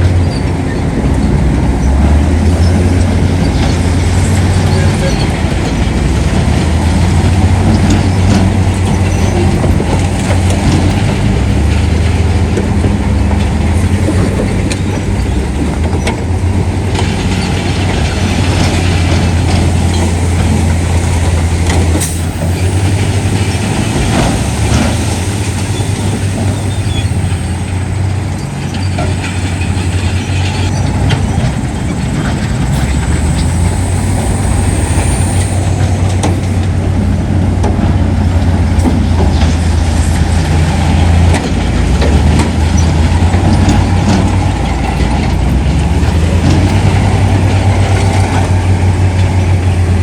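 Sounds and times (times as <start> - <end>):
diesel engine drone: 0.0 - 50.0.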